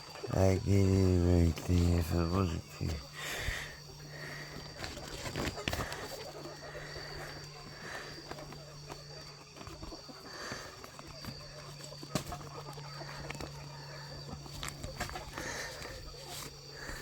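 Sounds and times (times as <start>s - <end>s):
chickens clucking: 0.0s - 17.0s
faint steady hum: 0.0s - 17.0s.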